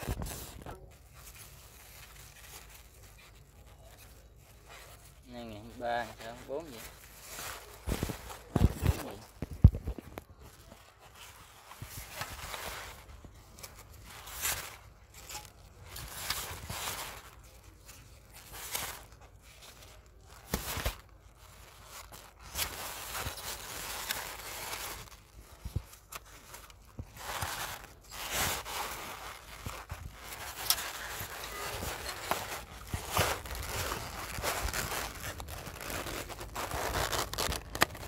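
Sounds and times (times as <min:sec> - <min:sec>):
plastic bag rustling: 0:00.0 - 0:38.0.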